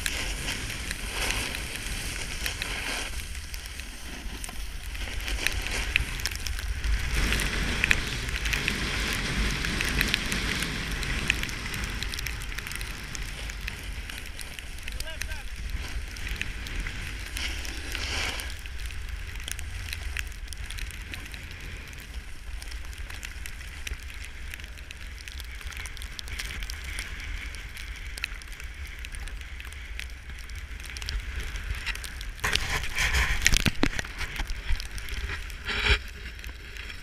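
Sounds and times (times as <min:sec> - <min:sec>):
snowboard scraping over snow: 0:00.0 - 0:37.0
wind rumbling on microphone: 0:00.0 - 0:37.0.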